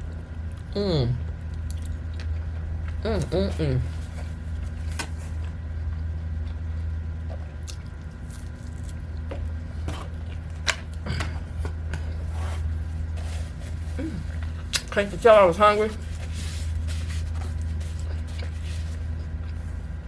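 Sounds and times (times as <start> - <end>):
person chewing: 0.0 - 14.9, 16.0 - 19.8
low hum: 0.0 - 20.0.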